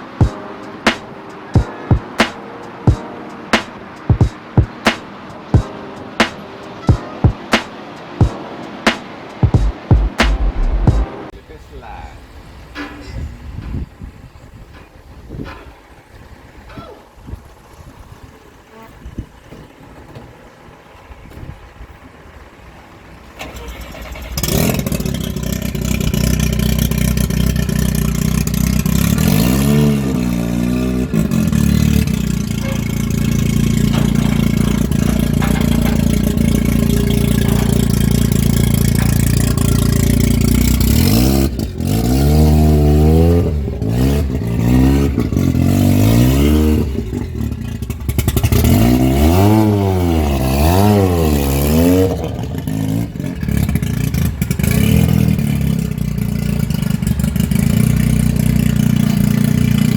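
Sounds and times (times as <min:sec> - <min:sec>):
car engine revving in blips: 0:00.0 - 0:11.4, 0:22.7 - 0:59.9
car engine starting and idling: 0:00.0 - 0:59.9.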